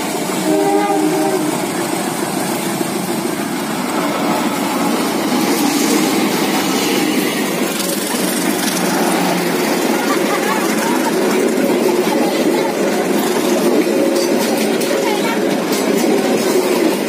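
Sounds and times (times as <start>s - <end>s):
locomotive engine running: 0.0s - 17.0s
train coaches rolling past: 0.0s - 17.0s.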